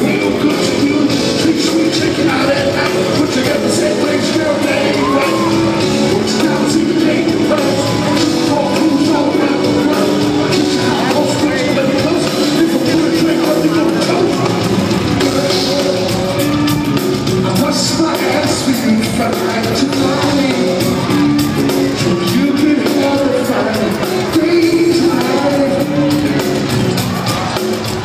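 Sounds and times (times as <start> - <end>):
man singing into a microphone: 0.0 - 26.6
live band music: 0.0 - 28.0.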